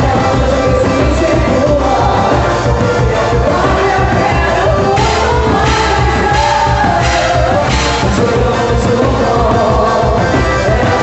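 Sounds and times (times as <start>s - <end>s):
folk dance music with singing: 0.0s - 11.0s.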